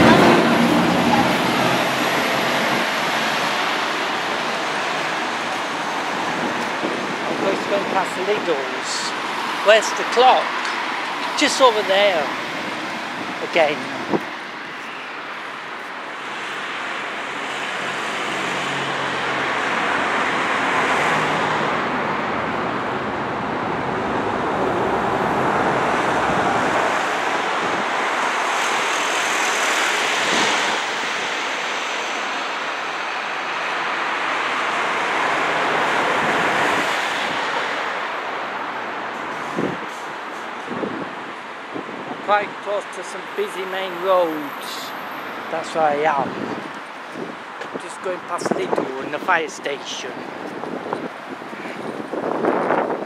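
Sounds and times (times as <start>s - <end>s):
road traffic passing: 0.0s - 53.0s.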